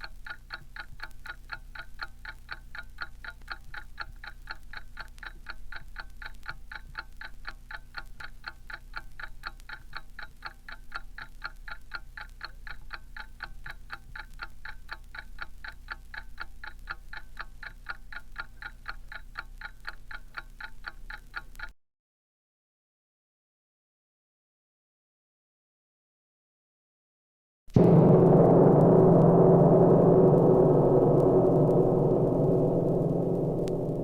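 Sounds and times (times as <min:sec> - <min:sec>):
alarm clock ticking fast: 0:00.0 - 0:21.7, 0:27.8 - 0:34.0.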